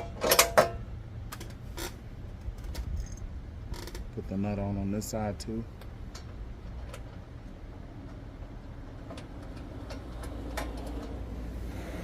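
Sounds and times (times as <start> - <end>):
low background hum: 0.0 - 11.8.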